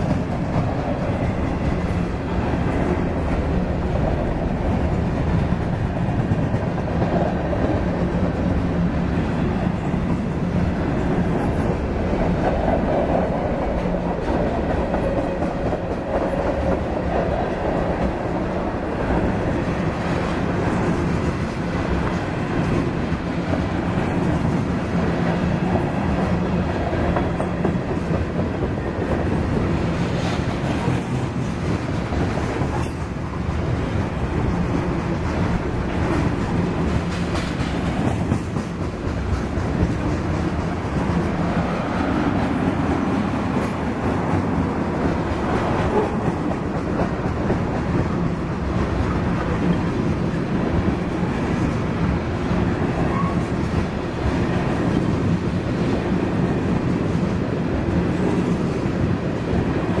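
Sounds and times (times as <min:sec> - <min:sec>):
freight train rolling past: 0:00.0 - 1:00.0.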